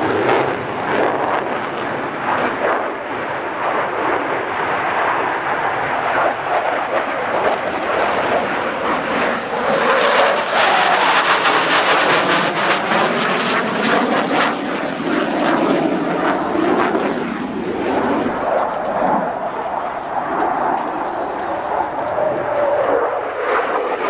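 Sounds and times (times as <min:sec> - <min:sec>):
jet engines roaring in fly-by: 0:00.0 - 0:24.0.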